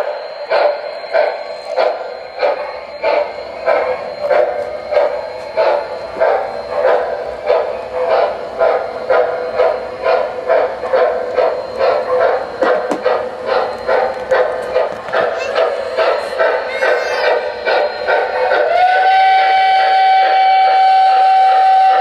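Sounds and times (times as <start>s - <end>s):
model steam locomotive chuffing: 0.0s - 22.0s
model train hum on track: 0.0s - 22.0s.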